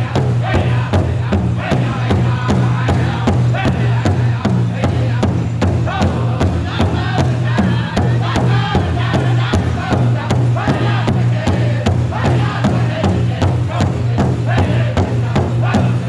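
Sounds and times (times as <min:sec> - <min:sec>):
fast hand drumbeat: 0:00.0 - 0:16.0
voices singing together: 0:00.0 - 0:16.0.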